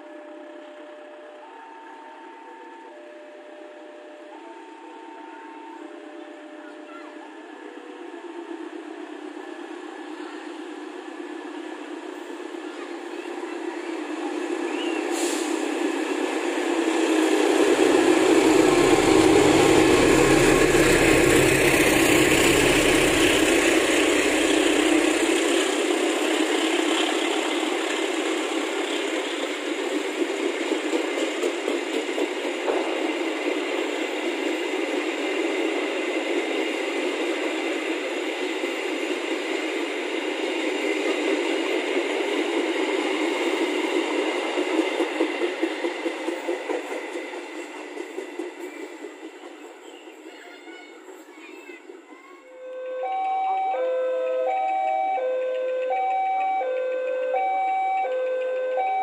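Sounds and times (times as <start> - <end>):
diesel locomotive engine passing: 0.0 - 59.0
train wheels on rails: 8.4 - 52.5, 53.1 - 59.0.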